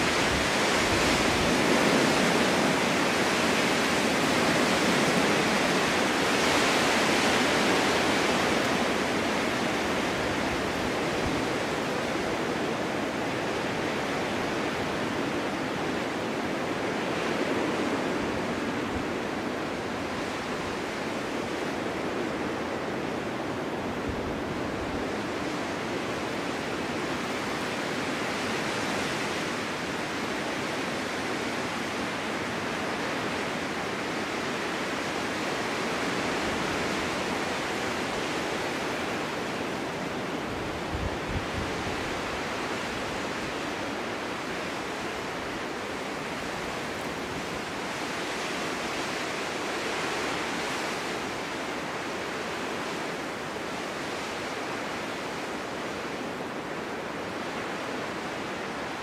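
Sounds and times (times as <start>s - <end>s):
gusting snowstorm wind: 0.0s - 59.0s.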